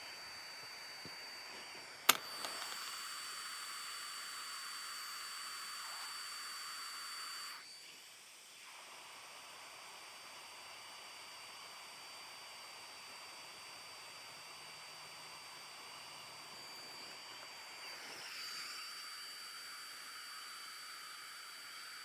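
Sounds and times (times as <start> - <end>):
hot air blower hissing: 0.0 - 22.0.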